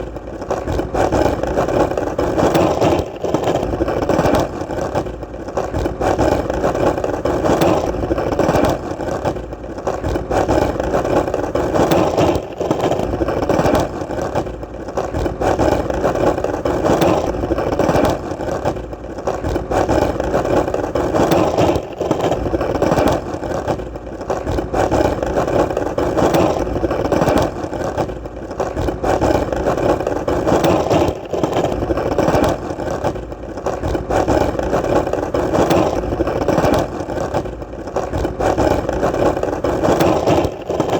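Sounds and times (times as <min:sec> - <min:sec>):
skateboard wheels rolling: 0:00.0 - 0:40.9.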